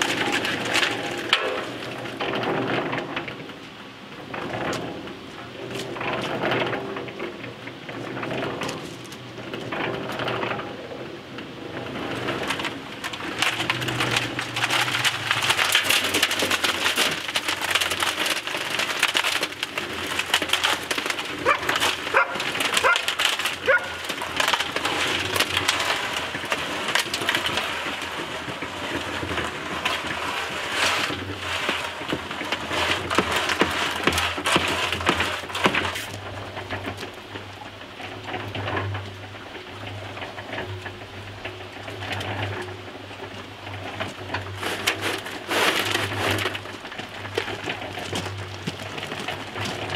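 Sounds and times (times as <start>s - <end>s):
concrete churning in mixer drum: 0.0s - 49.9s.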